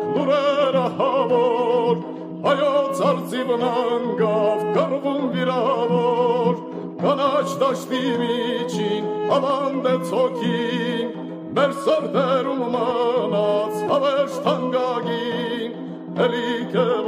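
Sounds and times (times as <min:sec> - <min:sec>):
ornamented folk melody with vibrato: 0:00.0 - 0:17.0.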